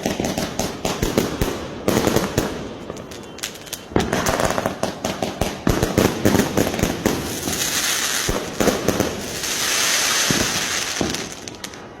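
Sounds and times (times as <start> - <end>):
firecrackers banging: 0.0 - 12.0
fireworks hissing crackle: 0.0 - 12.0.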